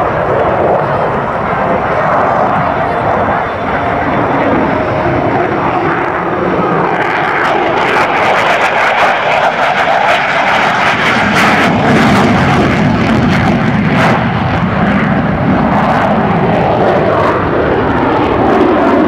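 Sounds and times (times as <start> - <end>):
fighter jet flying past: 0.0 - 19.0.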